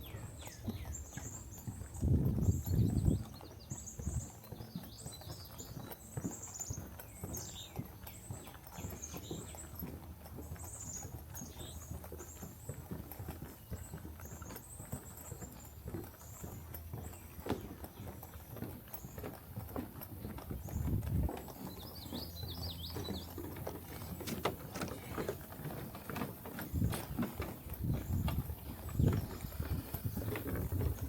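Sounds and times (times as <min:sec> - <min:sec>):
footsteps on a trail: 0:00.0 - 0:31.0
songbirds chirping: 0:00.0 - 0:31.0.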